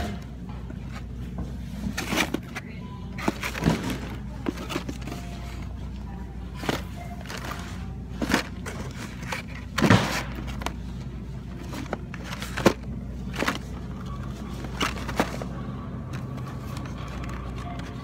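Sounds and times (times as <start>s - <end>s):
faint background music: 0.0s - 18.0s
store hum: 0.0s - 18.0s
plastic packs clacking together: 1.8s - 5.8s, 6.4s - 18.0s.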